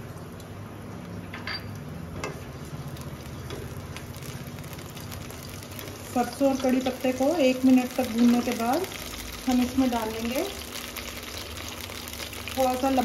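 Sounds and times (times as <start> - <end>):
seeds sizzling and popping in oil: 2.2 - 13.0.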